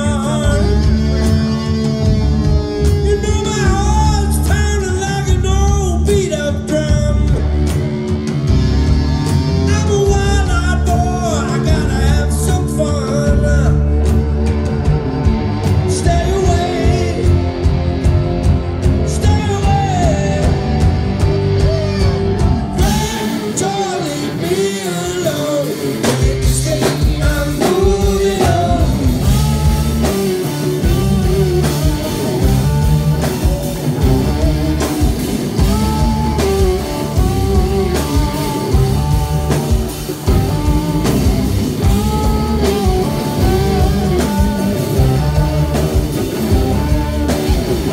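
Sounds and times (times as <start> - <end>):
lead guitar bending pitch: 0.0 - 47.9
rock band playing: 0.0 - 47.9.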